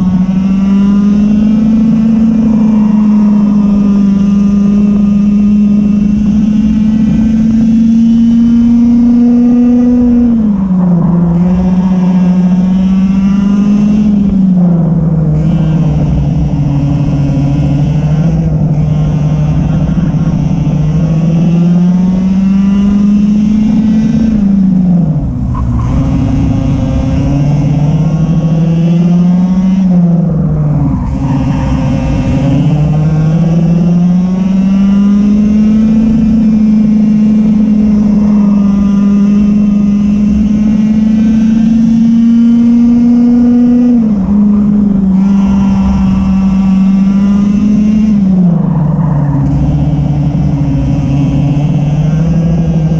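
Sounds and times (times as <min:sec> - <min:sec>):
kart engine at high revs: 0:00.0 - 0:52.9
rushing wind: 0:00.0 - 0:52.9.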